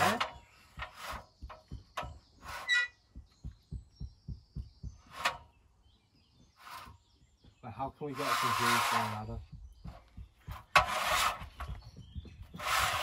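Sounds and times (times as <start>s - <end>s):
soft low thumps: 0.0s - 7.9s, 9.1s - 13.0s.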